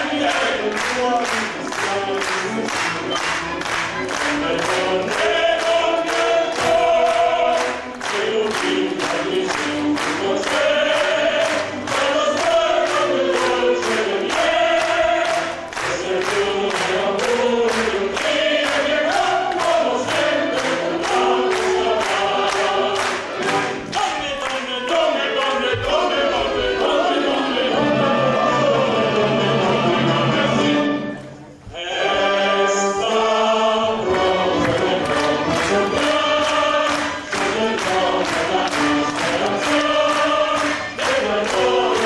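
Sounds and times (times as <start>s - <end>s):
audience clapping in time: 0.0s - 26.0s, 34.0s - 42.0s
chorus singing with music: 0.0s - 42.0s.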